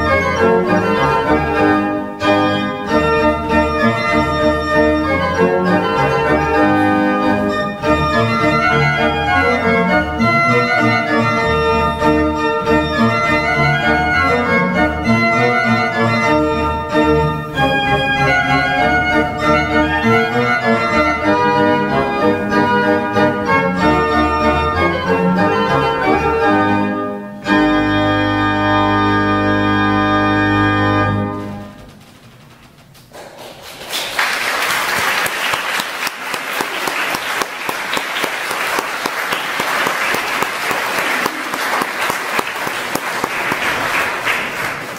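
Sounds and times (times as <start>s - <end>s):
pipe organ playing dance music: 0.0s - 44.9s.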